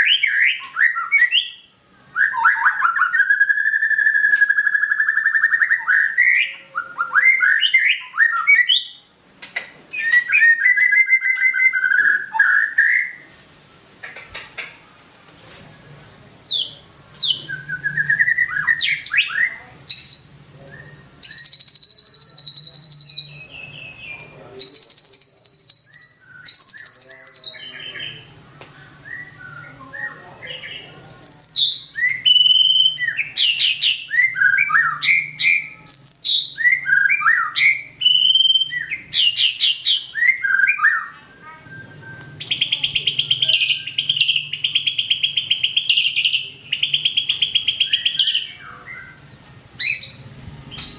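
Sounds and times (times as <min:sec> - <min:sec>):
bird singing whistles and trills: 0:00.0 - 0:13.3, 0:16.4 - 0:50.9
faint low hum: 0:01.5 - 0:50.9.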